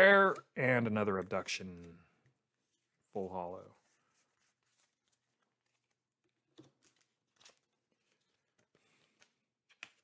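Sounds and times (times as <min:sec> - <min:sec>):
trading cards being handled: 0:00.1 - 0:10.0.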